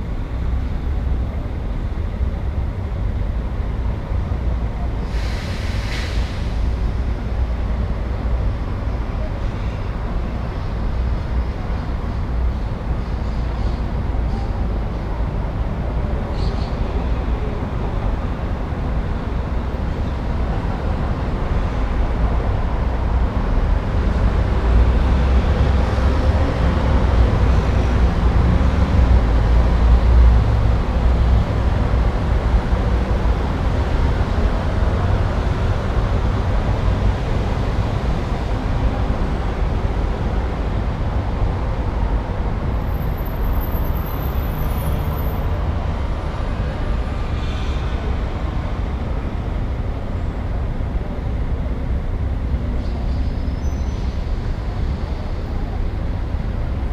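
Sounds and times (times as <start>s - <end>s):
rumble of street traffic: 0.0s - 56.9s.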